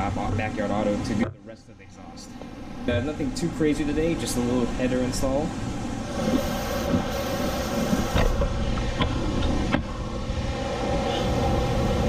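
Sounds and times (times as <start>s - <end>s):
blower fan whirring: 0.0s - 12.0s.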